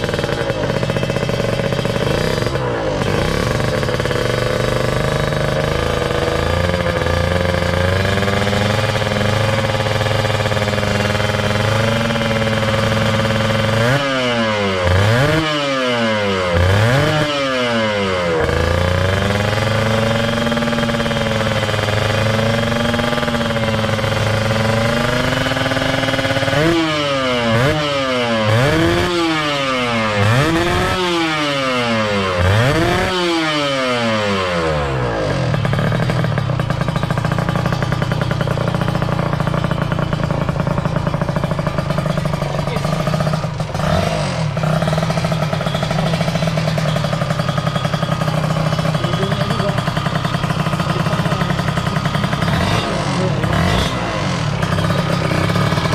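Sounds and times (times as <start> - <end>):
two-stroke engine idling and revving: 0.0 - 55.9.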